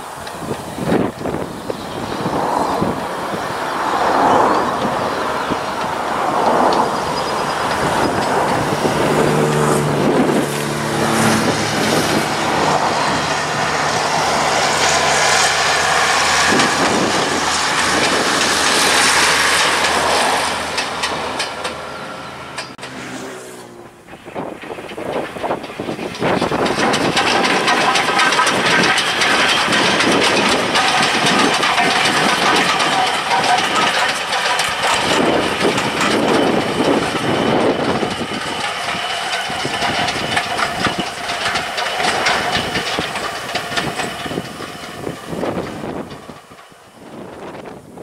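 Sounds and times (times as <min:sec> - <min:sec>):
train wheel clicks: 0:00.0 - 0:23.0, 0:24.2 - 0:48.0
train engine drone: 0:00.0 - 0:48.0.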